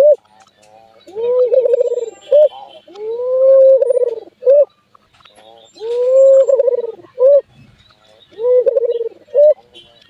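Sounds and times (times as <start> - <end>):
dove cooing: 0.0 - 4.7, 5.3 - 9.9.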